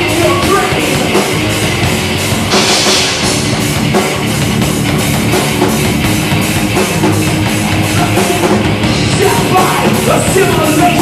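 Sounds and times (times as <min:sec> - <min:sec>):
heavy rock band playing: 0:00.0 - 0:11.0
rapid drum strokes: 0:00.0 - 0:11.0.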